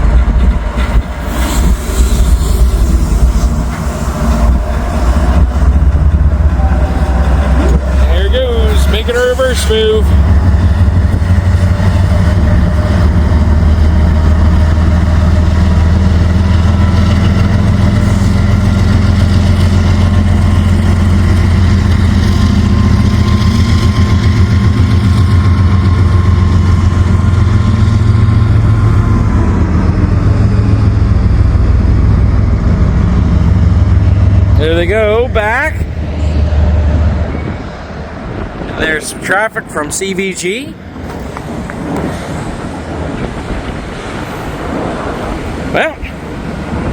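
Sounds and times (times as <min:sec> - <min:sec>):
diesel locomotive engine running: 0:00.0 - 0:46.9.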